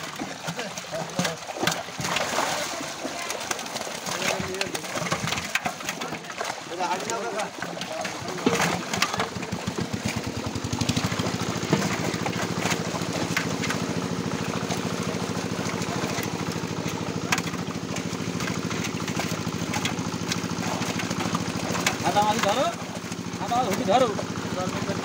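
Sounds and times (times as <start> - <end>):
fish thrashing and splashing: 0.0 - 25.0
small engine running: 0.0 - 25.0.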